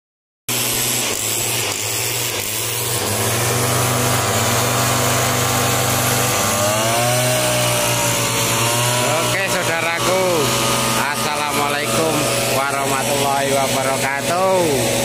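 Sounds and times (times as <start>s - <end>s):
small two-stroke engine running: 0.5s - 15.0s.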